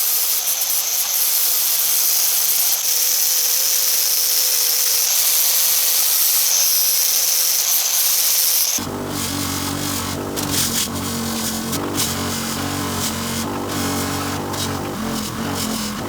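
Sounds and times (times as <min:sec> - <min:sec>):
power tool scraping metal: 0:00.0 - 0:16.0.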